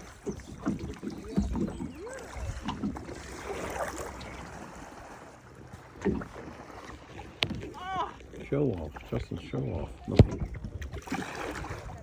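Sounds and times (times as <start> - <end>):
water lapping around kayak hull: 0.0 - 12.0.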